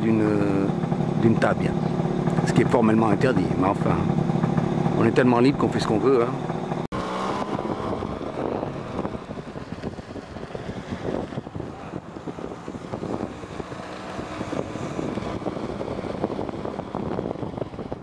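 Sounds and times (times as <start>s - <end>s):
motorcycle engine running: 0.0s - 18.0s
wind rumbling on microphone: 0.0s - 18.0s.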